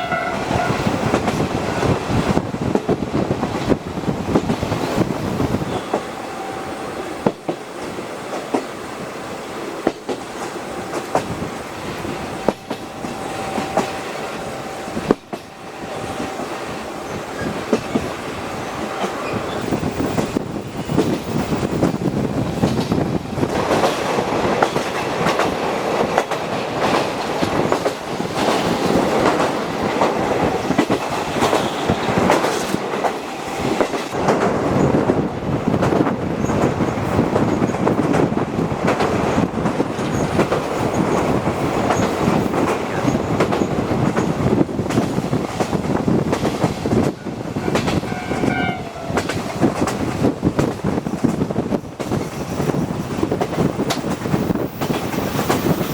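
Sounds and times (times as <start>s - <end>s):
clickety-clack of rail joints: 0.0s - 55.9s
train wheels rumbling: 0.0s - 55.9s.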